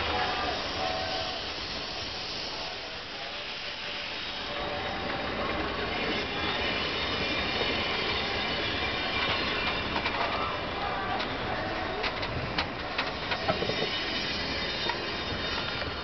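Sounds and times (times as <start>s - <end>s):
train wheels running on rails: 0.0s - 16.0s.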